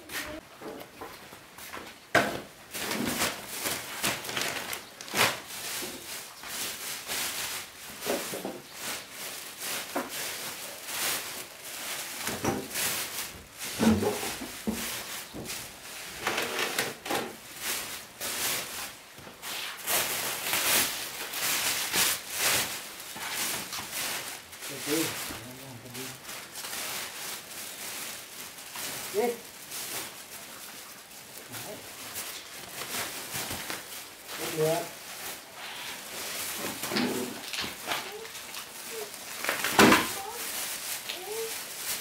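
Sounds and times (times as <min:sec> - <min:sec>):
broom sweeping floor: 0:00.0 - 0:42.0.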